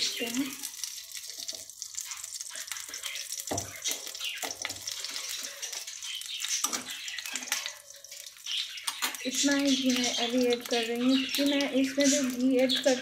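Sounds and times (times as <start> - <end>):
ghee sizzling in a pan: 0.0 - 13.0.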